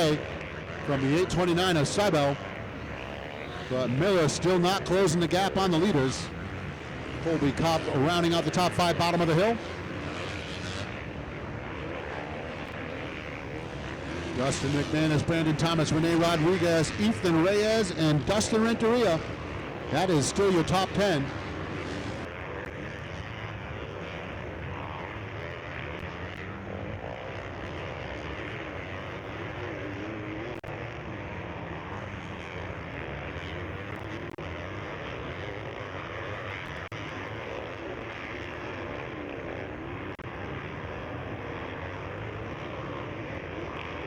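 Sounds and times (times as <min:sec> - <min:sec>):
motocross bikes revving: 0:00.0 - 0:44.0.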